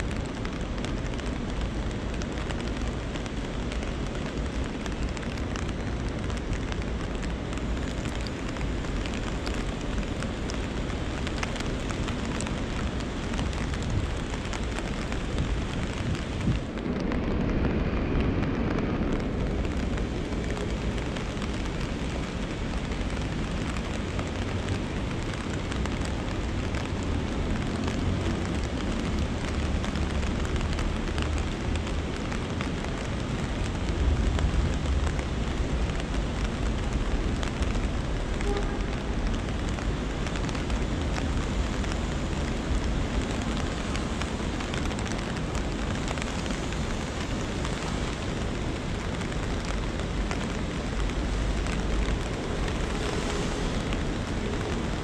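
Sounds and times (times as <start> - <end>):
rain and stream water: 0.0 - 55.0.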